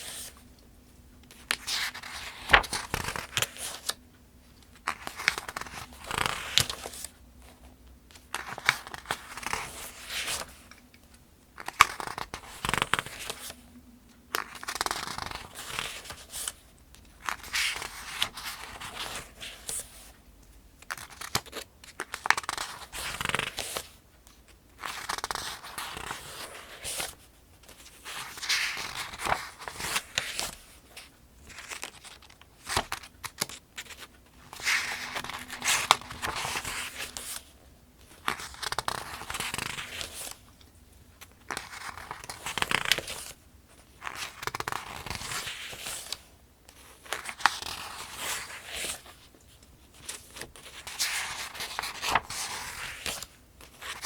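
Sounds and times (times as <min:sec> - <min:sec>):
paper pages turning: 0:01.3 - 0:04.0, 0:04.8 - 0:07.1, 0:08.1 - 0:10.8, 0:11.6 - 0:13.6, 0:14.3 - 0:16.6, 0:20.8 - 0:24.0, 0:24.8 - 0:54.0.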